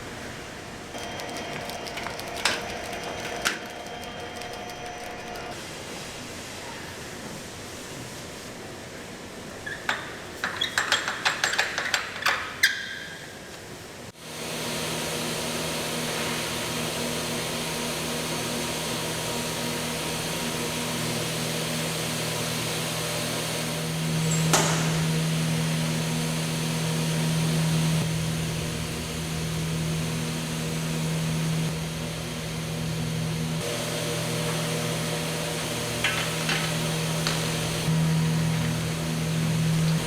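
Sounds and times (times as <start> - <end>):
machinery humming: 0.0 - 9.6, 13.8 - 40.0.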